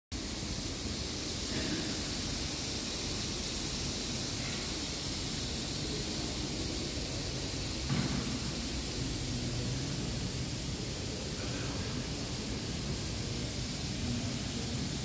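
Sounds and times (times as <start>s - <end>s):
steady hiss: 0.2s - 15.0s.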